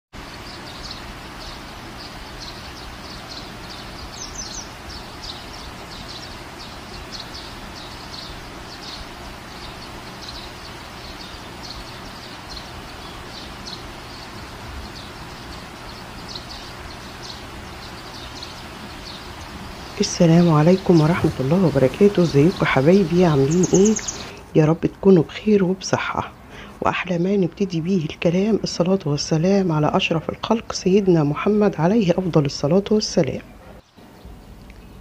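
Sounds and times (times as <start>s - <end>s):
small birds chirping: 0.1s - 35.0s
background hiss: 0.2s - 35.0s.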